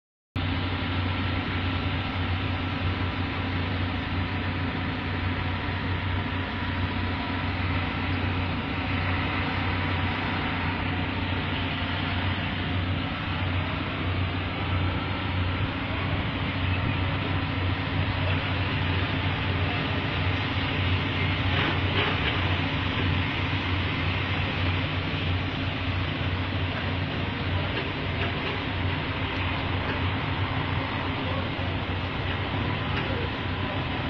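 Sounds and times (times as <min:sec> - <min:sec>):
low engine drone: 0:00.4 - 0:34.0.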